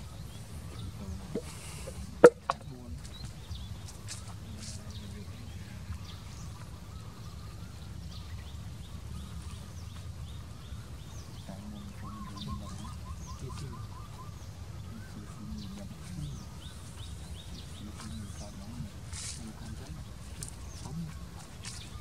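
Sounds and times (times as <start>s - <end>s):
birds chirping: 0.0s - 22.0s
steady low rumble: 0.0s - 22.0s.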